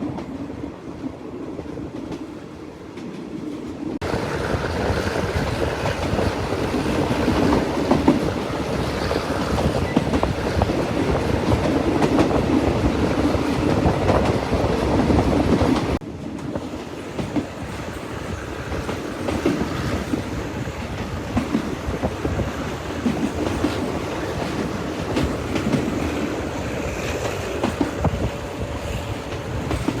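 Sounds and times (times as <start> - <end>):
train rumbling along track: 0.0 - 30.0
wheels clicking on rails: 4.0 - 30.0.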